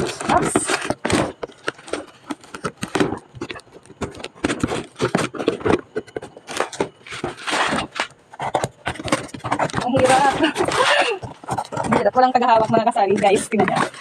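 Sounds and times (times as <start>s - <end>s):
cardboard boxes being handled: 0.0s - 14.0s
rustling packaging: 0.0s - 14.0s.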